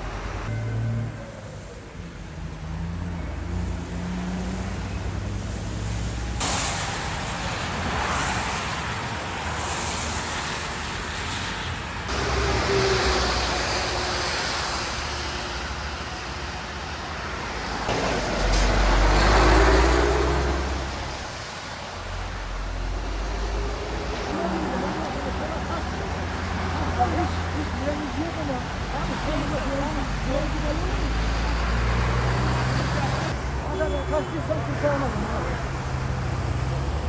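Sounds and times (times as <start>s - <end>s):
vehicles driving past on wet road: 0.0s - 37.0s.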